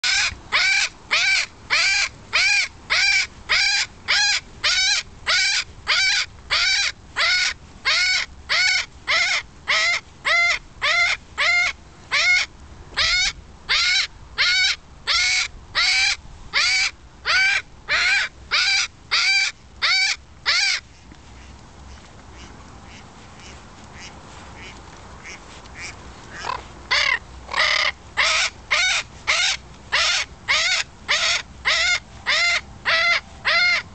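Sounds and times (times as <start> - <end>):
parrot screaming: 0.0 - 20.8, 26.4 - 33.8.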